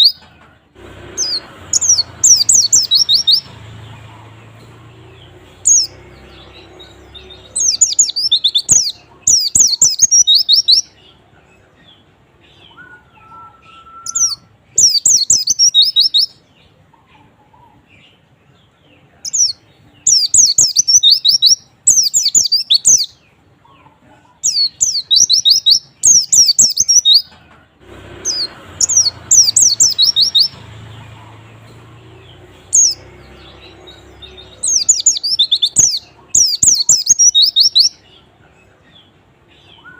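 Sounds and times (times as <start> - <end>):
bird twittering chirps: 0.0 - 0.3, 1.1 - 18.3, 19.2 - 27.4, 28.2 - 39.9.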